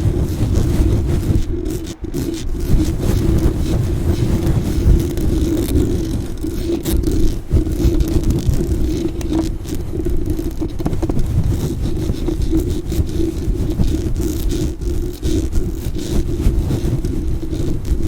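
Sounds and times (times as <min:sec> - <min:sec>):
brush scrubbing a microphone: 0:00.0 - 0:18.0
microphone handling rumble: 0:00.0 - 0:18.0.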